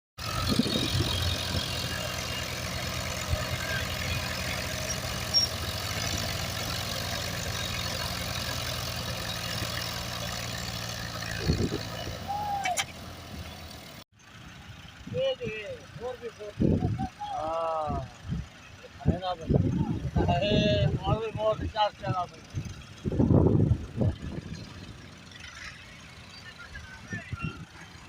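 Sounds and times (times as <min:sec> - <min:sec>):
tractor engine idling: 0:00.2 - 0:28.0.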